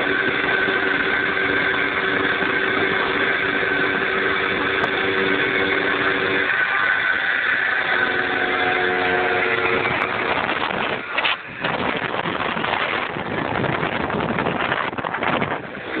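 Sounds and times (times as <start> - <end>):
moped engine running: 0.0 - 16.0
wind rushing over microphone: 0.0 - 16.0.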